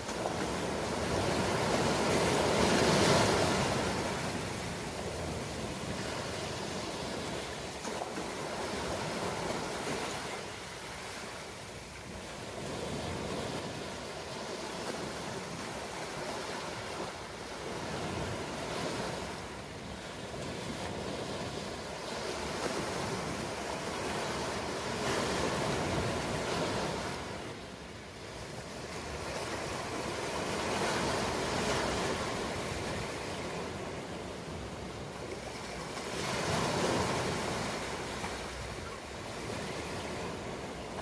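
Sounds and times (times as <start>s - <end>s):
ocean waves breaking: 0.0s - 41.0s.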